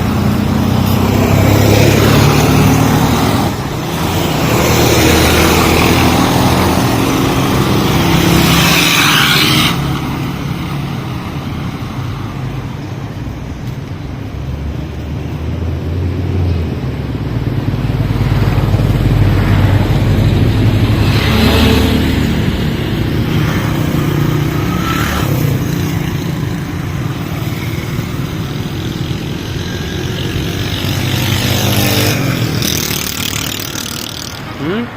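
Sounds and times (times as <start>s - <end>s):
whooshing road noise: 0.0s - 34.9s.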